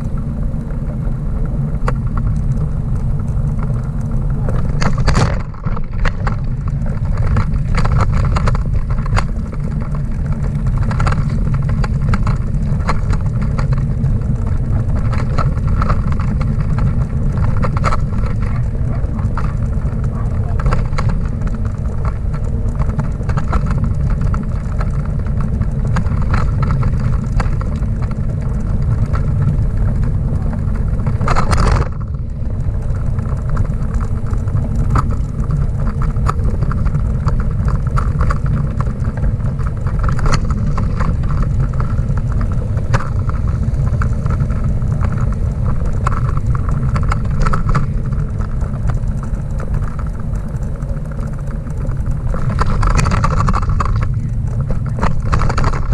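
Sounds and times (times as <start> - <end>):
trailer rolling rumble: 0.0 - 55.9
light rattles and knocks: 1.8 - 55.9.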